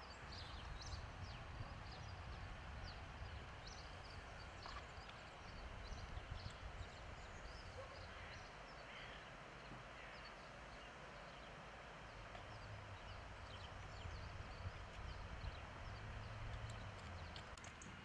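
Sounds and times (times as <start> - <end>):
low uneven rumble: 0.0 - 18.0
small birds chirping: 0.0 - 18.0.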